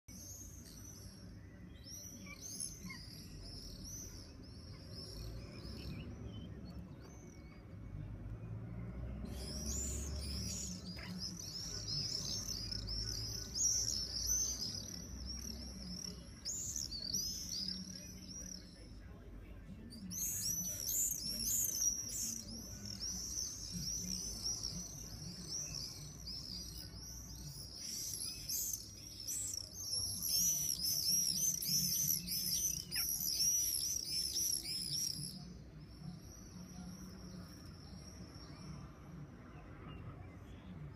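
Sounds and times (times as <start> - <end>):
swallows calling shrilly: 0.1 - 7.8, 9.1 - 38.8.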